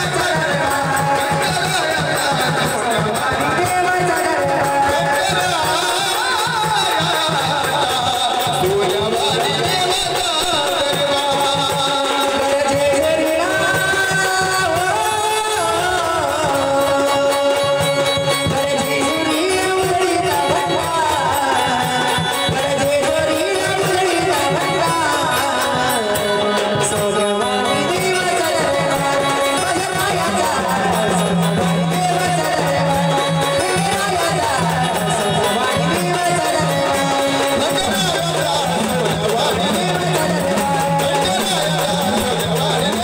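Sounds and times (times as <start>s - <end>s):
ornamented vocal melody: 0.0s - 43.0s
steady drum accompaniment: 0.0s - 43.0s.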